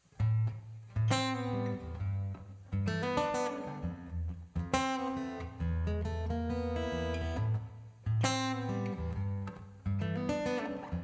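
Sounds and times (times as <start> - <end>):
acoustic guitar fingerpicking: 0.0 - 11.0.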